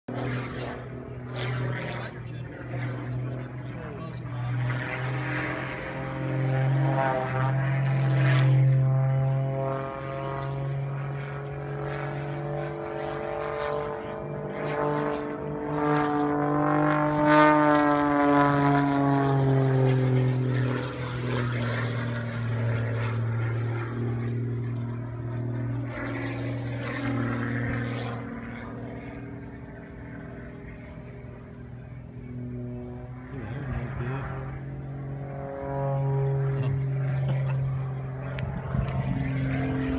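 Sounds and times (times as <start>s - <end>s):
propeller plane flying: 0.0s - 39.9s.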